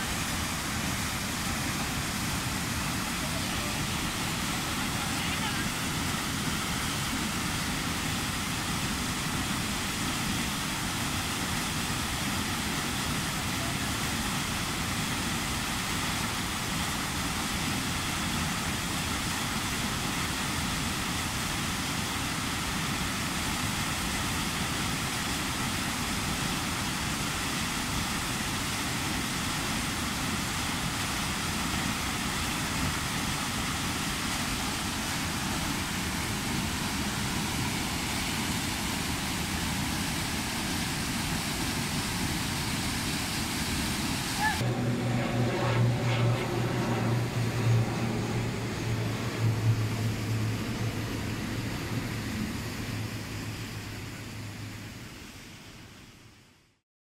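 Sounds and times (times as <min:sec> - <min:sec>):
waterfall rushing: 0:00.0 - 0:45.0, 0:47.1 - 0:55.9.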